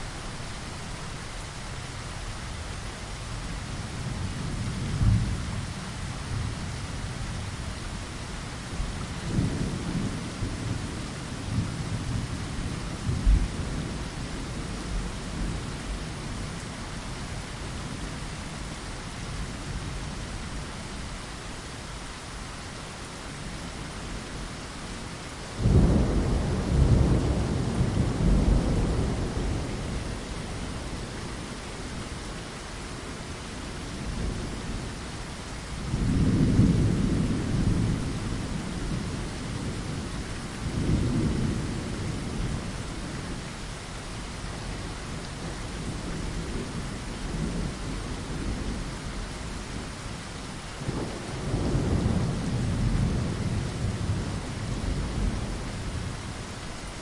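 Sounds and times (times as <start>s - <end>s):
rain patter on a window: 0.0s - 57.0s.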